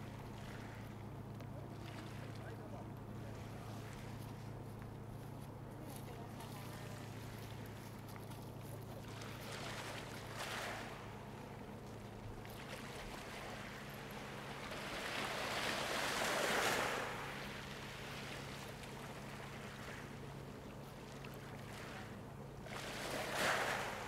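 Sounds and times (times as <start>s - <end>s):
water splashing around hull: 0.0s - 4.5s, 6.9s - 24.0s
boat engine humming: 0.0s - 24.0s.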